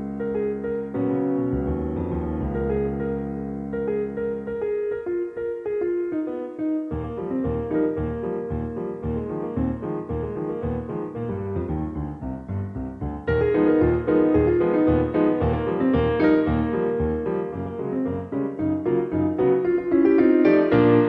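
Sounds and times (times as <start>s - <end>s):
piano music with steady beat: 0.0s - 21.0s.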